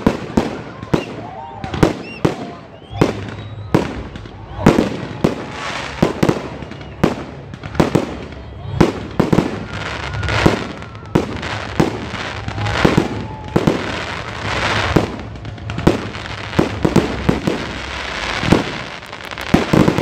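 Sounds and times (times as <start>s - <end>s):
firework crackle: 0.0s - 20.0s.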